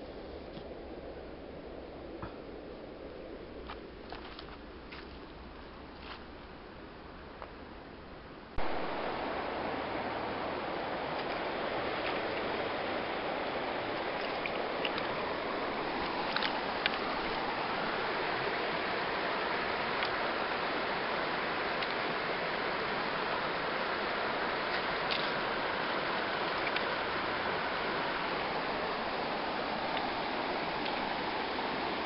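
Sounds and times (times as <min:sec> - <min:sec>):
stream running over stones: 0:01.6 - 0:06.6, 0:08.6 - 0:32.0.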